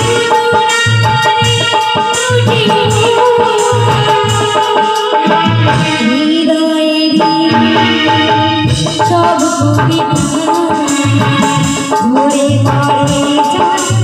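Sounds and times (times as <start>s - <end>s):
live band music: 0.0s - 14.0s
steady drum beat: 0.0s - 14.0s
woman singing into microphone: 0.0s - 14.0s.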